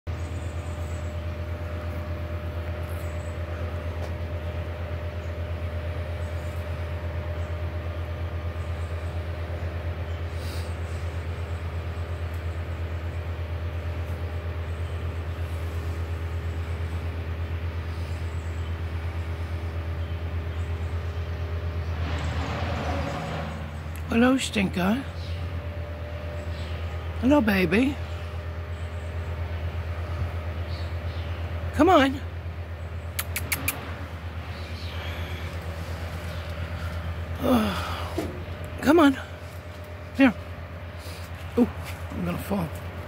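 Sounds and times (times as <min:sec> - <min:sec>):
low machine hum with throb: 0:00.1 - 0:43.0.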